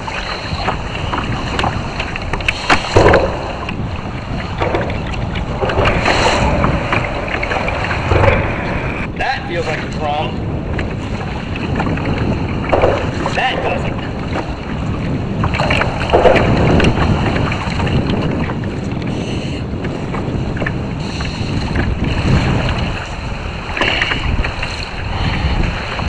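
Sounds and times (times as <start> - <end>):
water splashing against kayak hull: 0.0 - 26.0
wind rumbling on microphone: 0.0 - 26.0.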